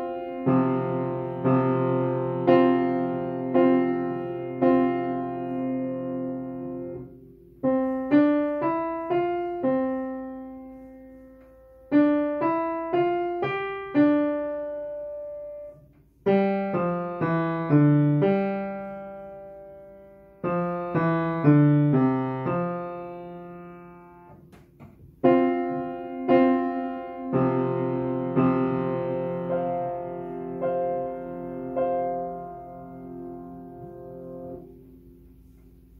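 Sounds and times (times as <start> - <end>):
slow piano melody: 0.0 - 35.9.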